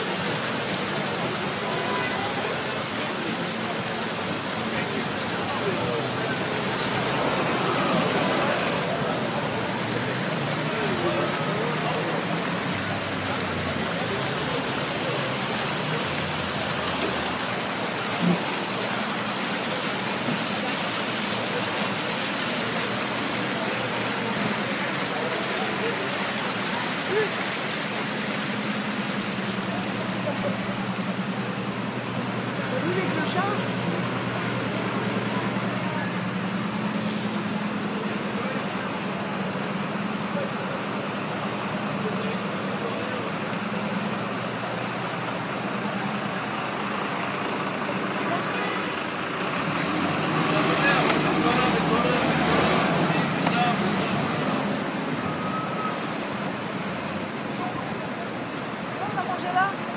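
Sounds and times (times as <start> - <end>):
fountain water splashing: 0.0 - 59.9
street traffic: 0.0 - 59.9
voices of passers-by: 0.0 - 59.9.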